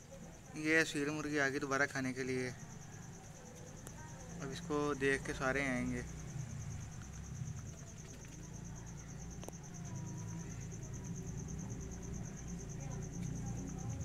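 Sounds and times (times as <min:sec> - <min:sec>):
cricket trilling: 0:00.0 - 0:14.0
low background rumble: 0:02.5 - 0:14.0.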